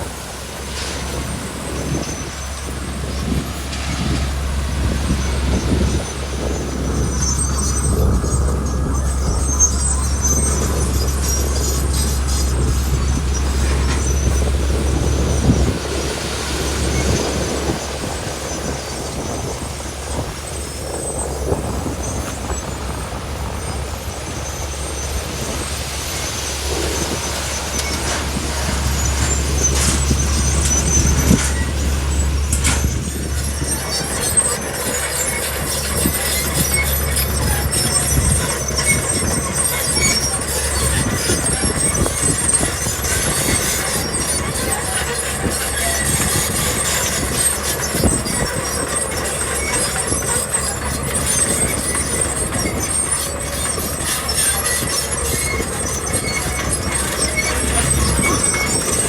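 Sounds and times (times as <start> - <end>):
diesel engine rumble: 0.0 - 59.0
high metallic squealing: 0.0 - 59.0.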